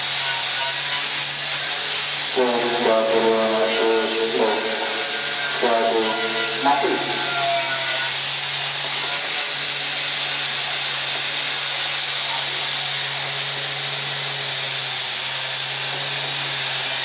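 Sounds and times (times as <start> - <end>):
machine hissing and whining: 0.0 - 17.0.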